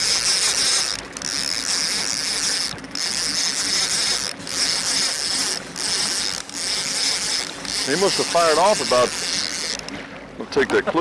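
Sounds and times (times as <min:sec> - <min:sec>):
fishing reel clicker ratcheting: 0:00.0 - 0:10.0.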